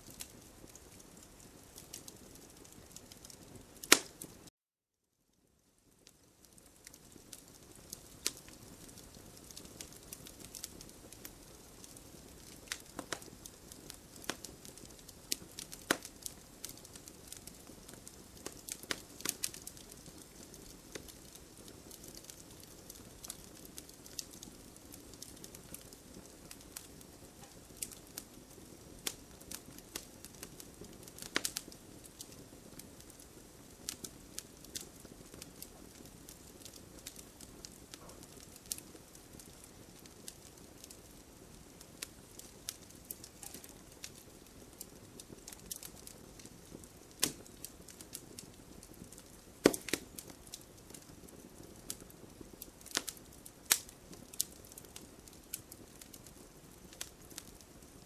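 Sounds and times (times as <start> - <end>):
campfire wood crackling: 0.0 - 4.5, 5.8 - 58.0
fire hissing: 6.8 - 57.9.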